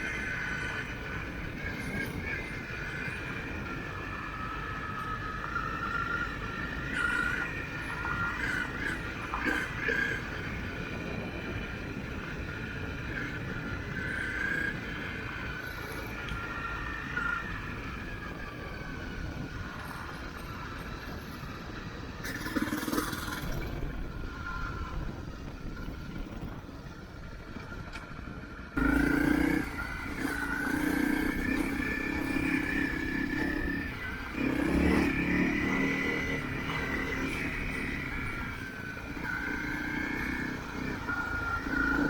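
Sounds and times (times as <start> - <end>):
motorcycle engine running: 0.0 - 42.0
road and wind noise: 0.0 - 42.0.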